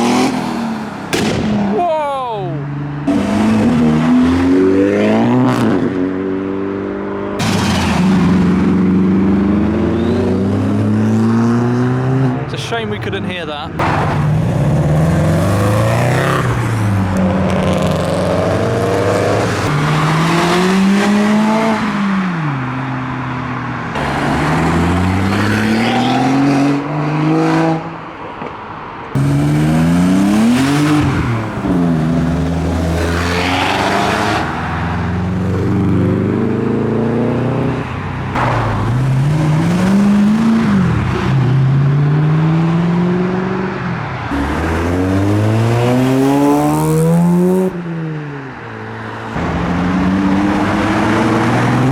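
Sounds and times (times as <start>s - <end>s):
car engines revving and accelerating: 0.0s - 51.9s.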